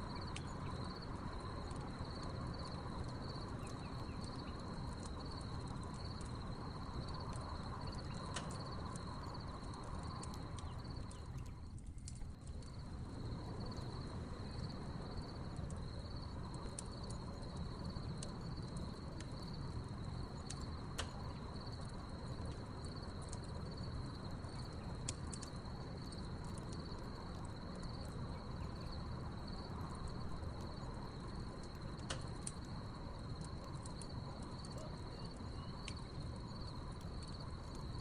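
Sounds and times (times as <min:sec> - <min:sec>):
crickets chirping: 0:00.0 - 0:38.0
wood fire crackling and popping: 0:00.0 - 0:38.0.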